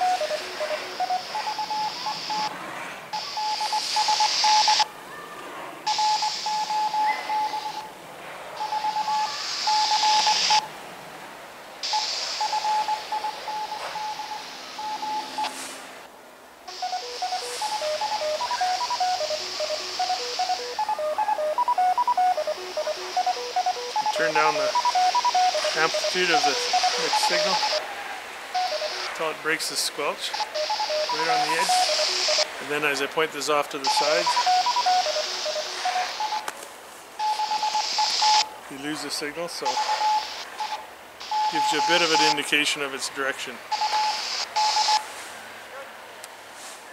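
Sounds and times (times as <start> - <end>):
radio beeping tones: 0.0 - 2.5, 3.1 - 4.9, 5.8 - 7.9, 8.6 - 10.7, 11.8 - 15.7, 16.7 - 27.9, 28.5 - 36.5, 37.2 - 39.0, 39.6 - 42.8, 43.7 - 45.1
radio hiss: 0.0 - 2.5, 3.1 - 4.9, 5.8 - 7.9, 8.5 - 10.7, 11.8 - 16.1, 16.7 - 36.6, 37.2 - 45.2.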